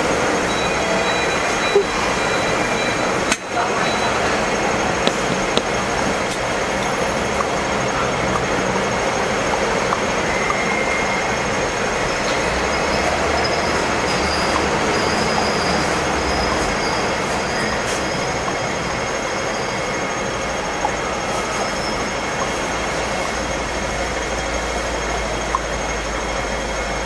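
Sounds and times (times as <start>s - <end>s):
street noise: 0.0s - 27.0s
tram rumbling: 0.0s - 27.0s
wheels squealing on rails: 0.0s - 27.0s.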